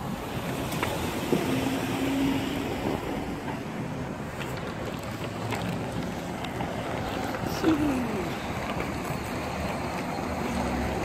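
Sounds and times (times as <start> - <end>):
vehicle noise: 0.0 - 11.0.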